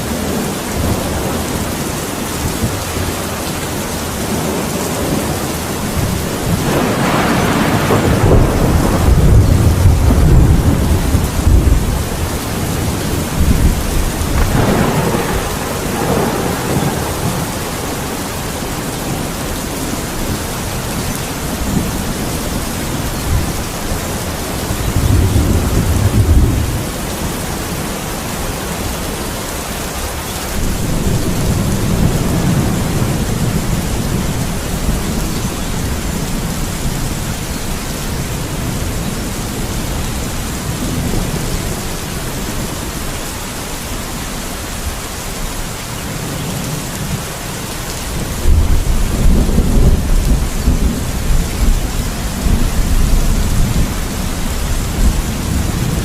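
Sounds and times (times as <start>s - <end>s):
rolling thunder: 0.0s - 29.2s, 29.8s - 43.1s, 47.9s - 56.0s
heavy rain: 0.0s - 56.0s.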